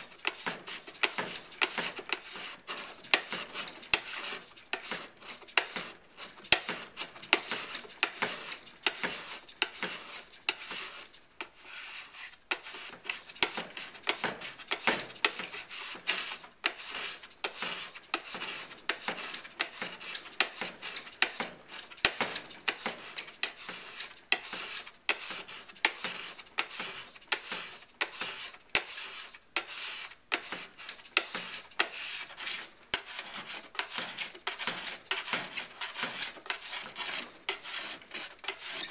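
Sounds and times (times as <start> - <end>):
metal scraper shaving plastic: 0.0 - 38.9.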